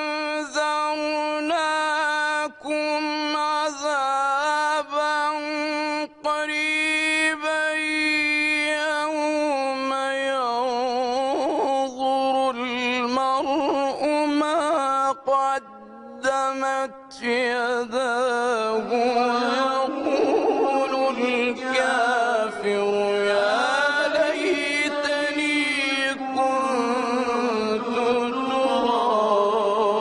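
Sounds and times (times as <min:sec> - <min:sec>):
man reciting melodically: 0:00.0 - 0:30.0.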